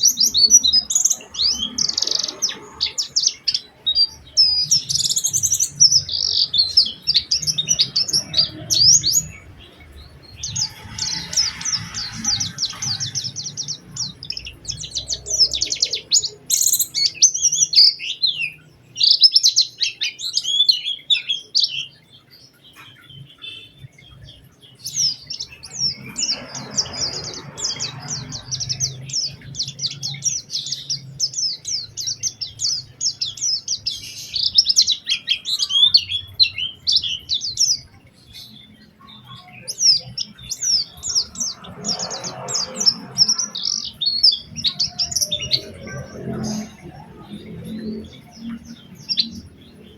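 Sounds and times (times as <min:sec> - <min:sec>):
bird twittering song: 0:00.0 - 0:49.9.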